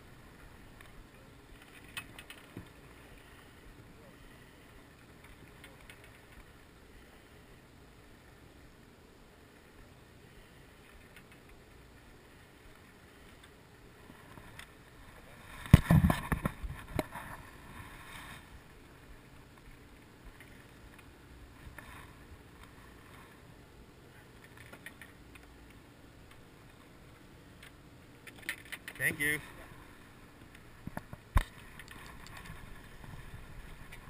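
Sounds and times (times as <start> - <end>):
faint background noise: 0.0 - 34.0.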